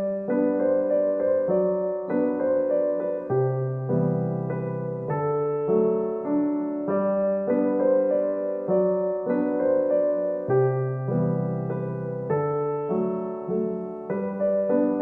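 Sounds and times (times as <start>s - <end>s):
solo piano piece: 0.0s - 15.0s.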